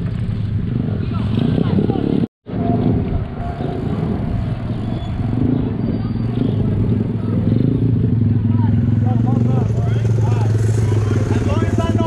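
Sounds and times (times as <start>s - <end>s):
dirt bike engines running: 0.0s - 12.0s
road and wind noise: 0.0s - 12.0s.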